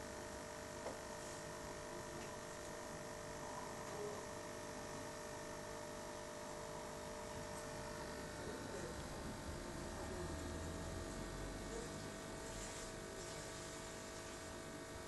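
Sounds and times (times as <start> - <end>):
electrical hum of aquarium equipment: 0.0 - 15.0.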